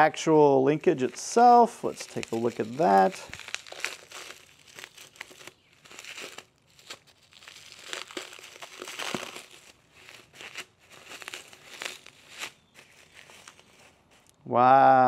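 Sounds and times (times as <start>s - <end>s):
bubble wrap crinkling: 0.0s - 14.4s.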